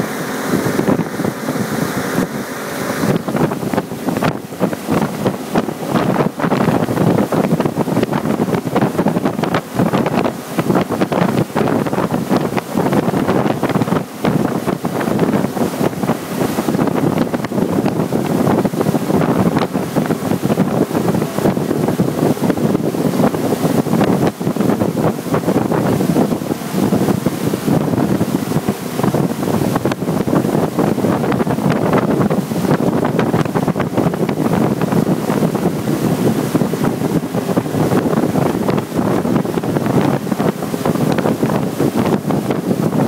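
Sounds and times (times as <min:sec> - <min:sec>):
water churning in wake: 0:00.0 - 0:43.0
wind buffeting microphone: 0:00.0 - 0:43.0.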